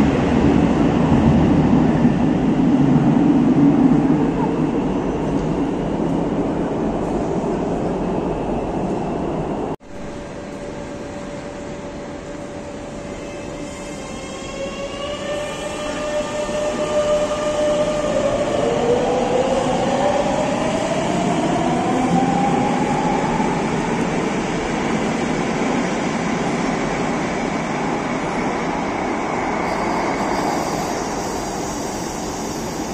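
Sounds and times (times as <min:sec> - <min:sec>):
electric train hum: 0:00.0 - 0:32.9.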